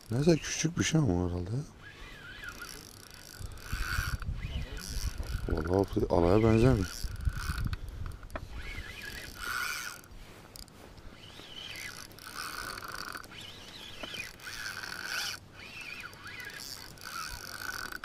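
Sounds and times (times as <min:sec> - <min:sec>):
fishing reel gears whirring: 0:00.0 - 0:18.0.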